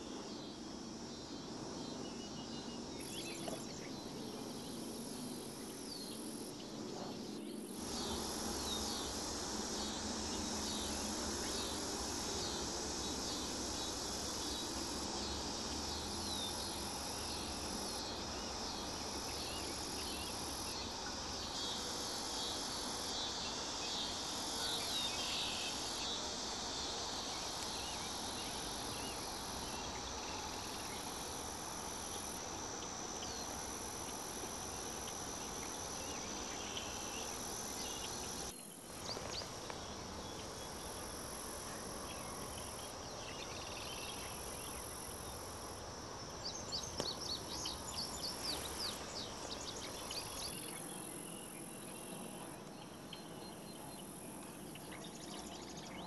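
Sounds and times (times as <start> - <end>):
insect buzz: 0.0 - 56.0
insects trilling: 0.0 - 56.0.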